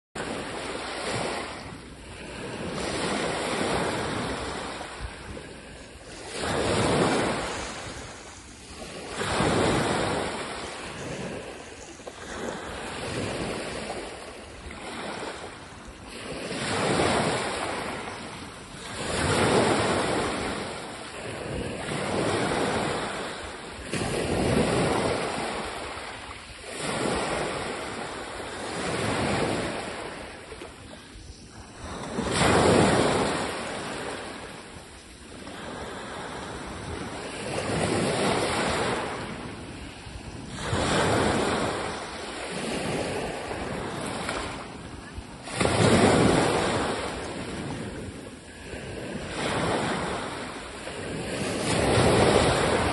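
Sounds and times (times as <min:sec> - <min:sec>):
ocean waves breaking: 0:00.2 - 0:52.9.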